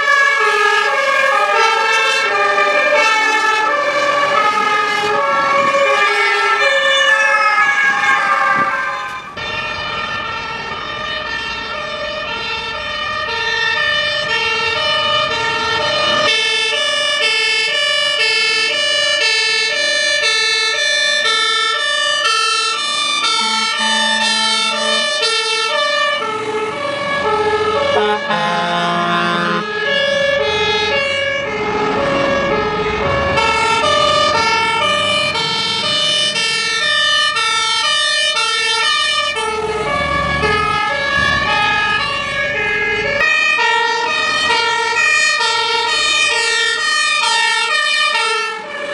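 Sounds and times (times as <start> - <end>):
fire engine siren wailing: 0.0 - 48.9.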